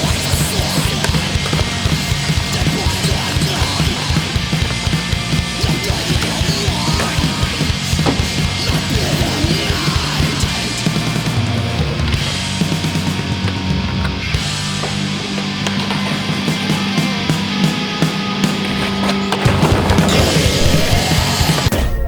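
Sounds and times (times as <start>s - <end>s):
heavy rock music with drums: 0.0s - 22.0s.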